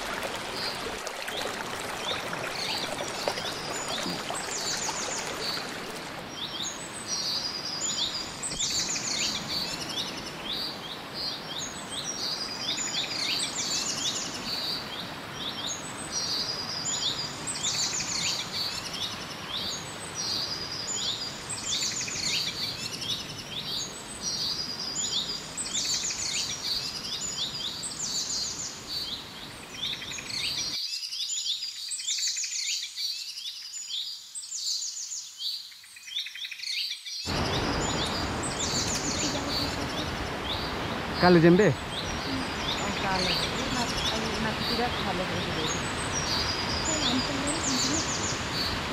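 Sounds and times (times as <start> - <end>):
waterfall and stream rushing: 0.0 - 30.7, 37.3 - 48.9
birds chirping: 0.0 - 30.8, 34.0 - 48.9.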